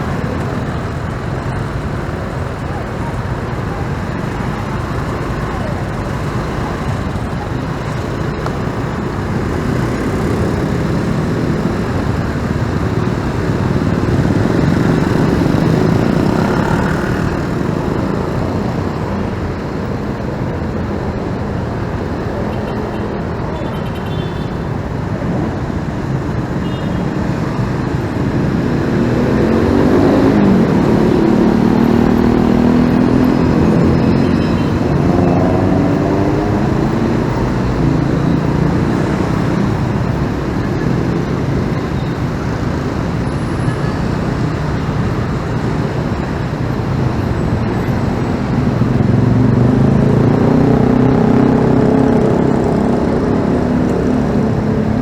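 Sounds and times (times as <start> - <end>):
motorcycle engine: 0.0 - 20.9, 22.3 - 55.0
surrounding vehicle engines: 0.0 - 55.0
wind and road rumble: 0.0 - 55.0.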